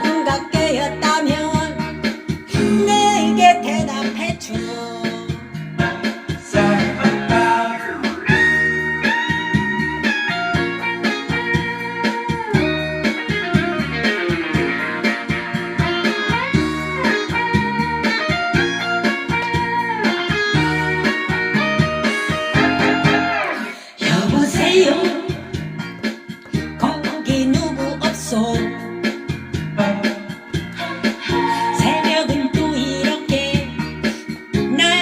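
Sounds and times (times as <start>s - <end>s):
bass and drums: 0.0s - 35.0s
electric guitar lead melody: 0.0s - 35.0s.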